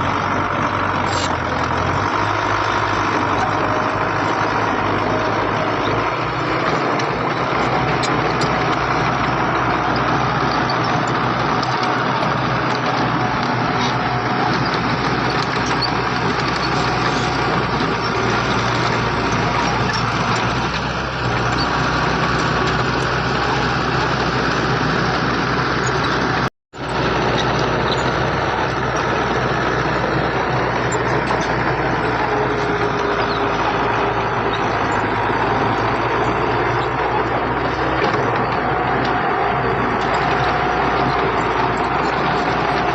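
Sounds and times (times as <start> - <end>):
diesel machinery engine running: 0.0 - 42.9.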